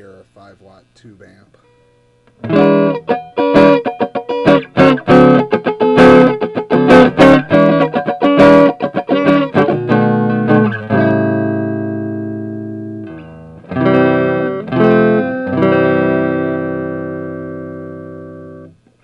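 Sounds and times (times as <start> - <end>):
electric guitar notes and chords: 1.6 - 19.0.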